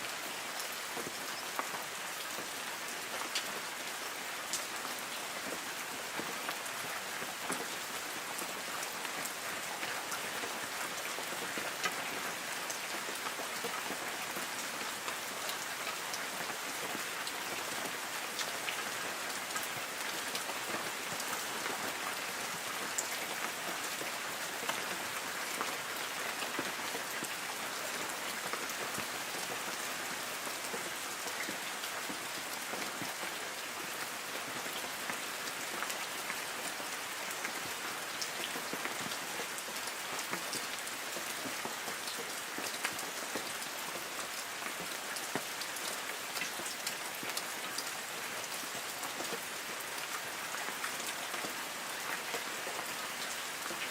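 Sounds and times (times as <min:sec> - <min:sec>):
rain pattering on leaves: 0:00.0 - 0:53.9.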